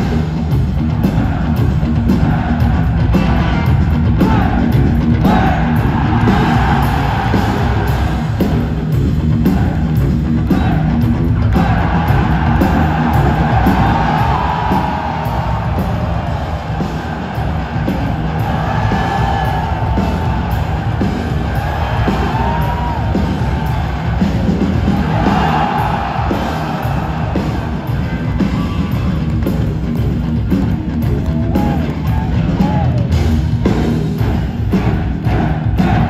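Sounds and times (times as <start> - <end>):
crowd shouting along: 0.0 - 30.0, 31.0 - 33.3, 34.2 - 36.0
bass guitar: 0.0 - 36.0
distorted electric guitars: 0.0 - 36.0
drums: 0.0 - 36.0.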